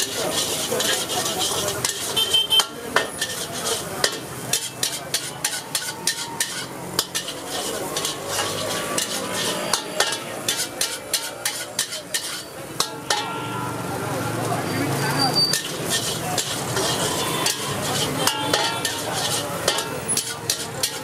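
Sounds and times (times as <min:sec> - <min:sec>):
metal spatula scraping wok: 0:00.0 - 0:21.0
rice sizzling: 0:00.0 - 0:21.0.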